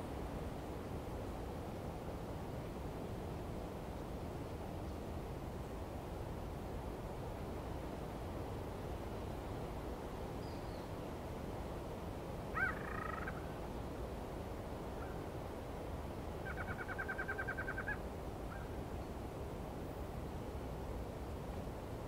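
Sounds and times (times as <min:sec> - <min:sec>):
wind hiss: 0:00.0 - 0:22.0.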